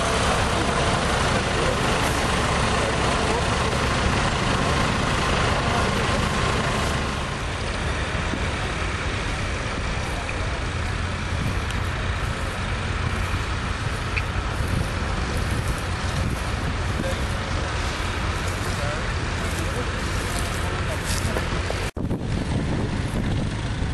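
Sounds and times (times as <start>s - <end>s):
rushing noise: 0.0s - 23.9s
tractor engine running: 0.0s - 23.9s.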